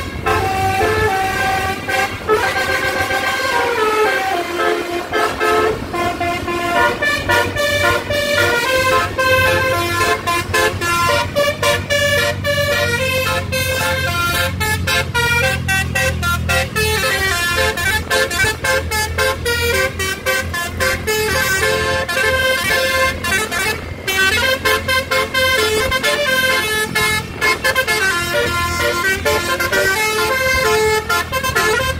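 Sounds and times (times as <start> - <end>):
engine rumble and road noise: 0.0 - 31.9
multi-note bus horn tune: 0.0 - 31.9.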